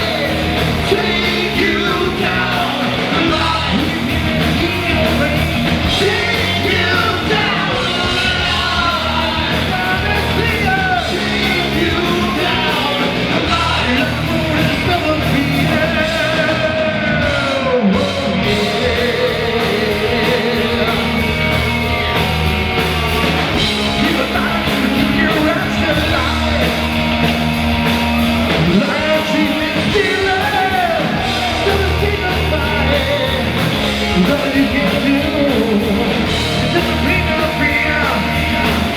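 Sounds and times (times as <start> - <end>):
lead singer belting: 0.0 - 38.9
rock band playing live: 0.0 - 38.9.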